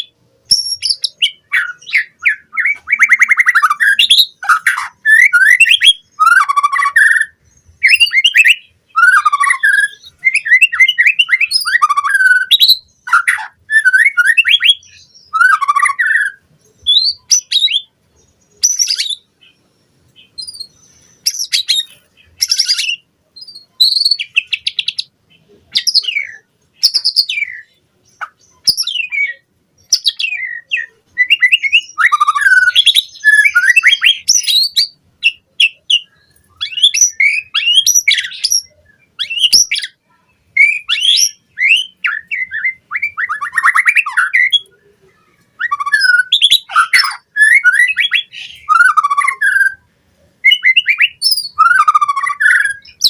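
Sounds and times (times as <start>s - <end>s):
bird singing whistled phrases: 0.0s - 17.9s, 18.5s - 19.6s, 20.2s - 25.1s, 25.7s - 53.0s.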